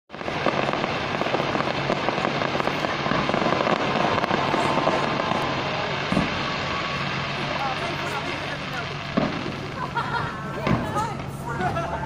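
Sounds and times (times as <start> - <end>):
fireworks crackling and popping: 0.1 - 12.0.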